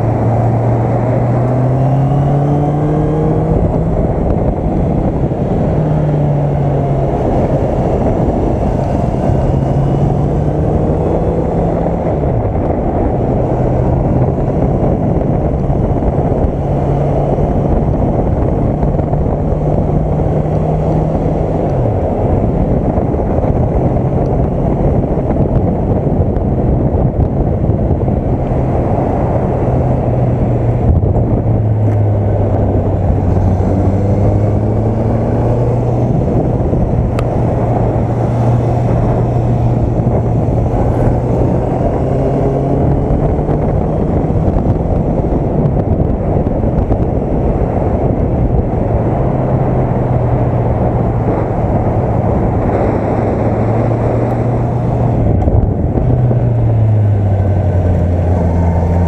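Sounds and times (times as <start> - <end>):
wind noise: 0.0 - 59.0.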